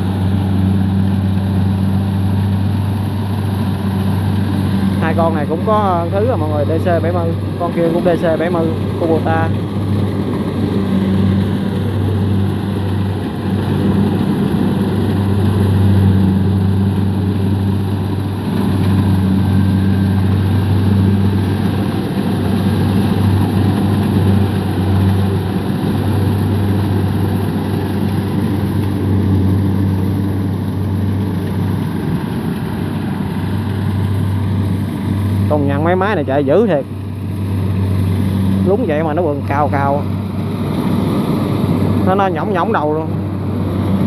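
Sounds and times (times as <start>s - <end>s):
combine harvester running: 0.0s - 44.0s.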